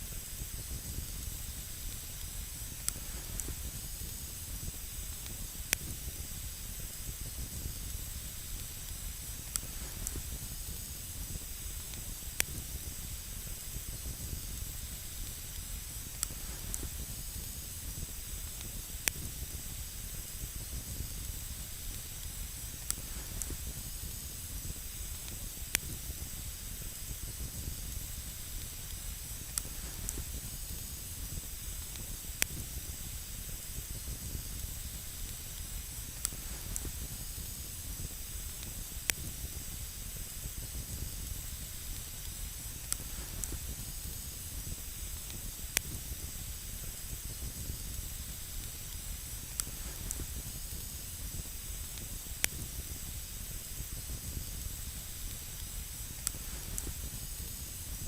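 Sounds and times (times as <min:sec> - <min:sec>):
campfire hissing: 0:00.0 - 0:58.0
fire crackles: 0:00.0 - 0:58.0.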